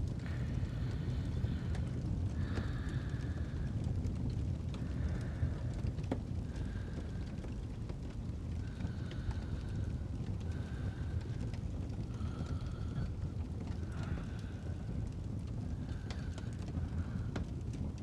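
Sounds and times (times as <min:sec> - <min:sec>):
fire crackling and rumbling: 0:00.0 - 0:18.0.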